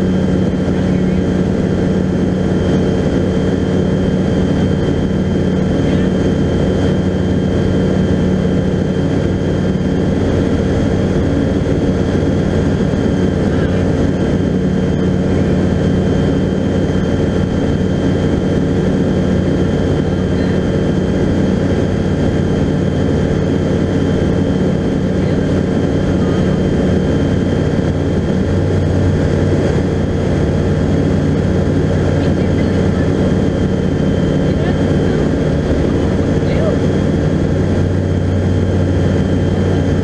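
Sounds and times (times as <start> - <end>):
aircraft engine and propeller: 0.0 - 40.0.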